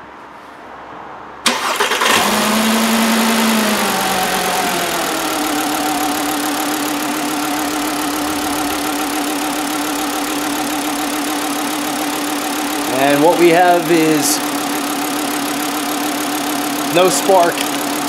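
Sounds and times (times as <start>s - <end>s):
car engine starting and idling: 1.4s - 18.0s.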